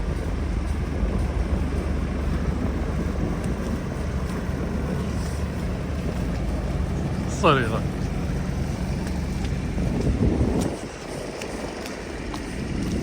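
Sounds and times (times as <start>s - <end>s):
city street rumble: 0.0s - 13.0s.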